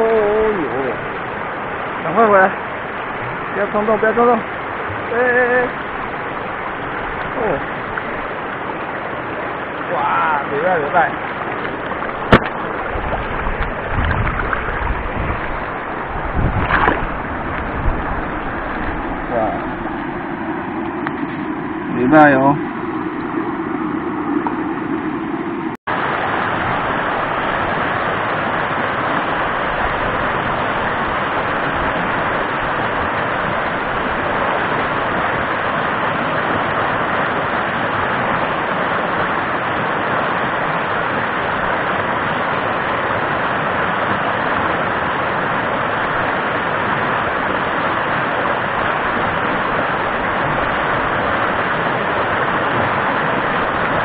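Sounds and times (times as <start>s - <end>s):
stream rapids rushing over rocks: 0.0s - 21.4s, 25.9s - 54.0s.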